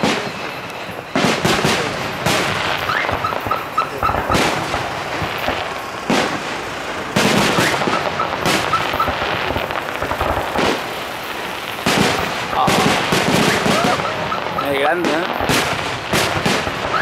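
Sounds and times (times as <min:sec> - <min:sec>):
fireworks bursting with crackling: 0:00.0 - 0:17.0.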